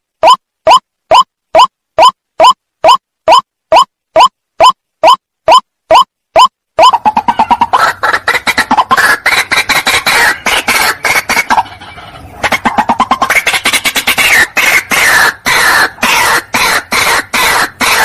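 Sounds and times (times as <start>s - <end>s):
bird calling harsh repeated notes: 0.2s - 18.0s.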